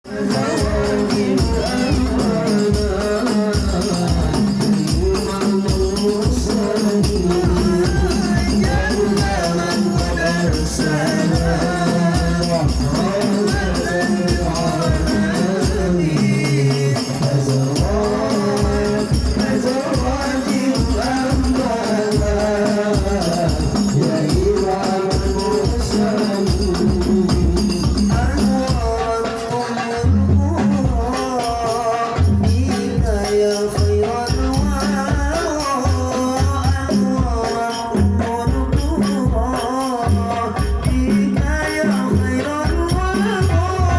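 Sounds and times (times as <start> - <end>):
devotional singing: 0.0 - 43.9
frame drums beating: 0.1 - 43.9.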